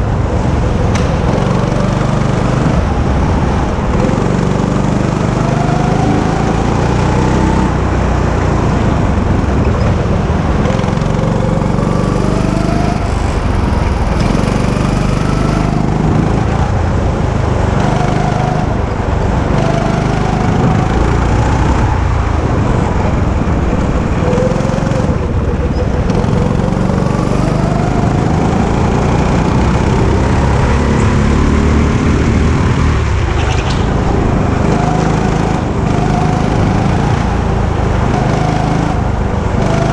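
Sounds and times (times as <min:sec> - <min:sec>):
go-kart engine revving: 0:00.0 - 0:39.9
wind rumble on microphone: 0:00.0 - 0:39.9.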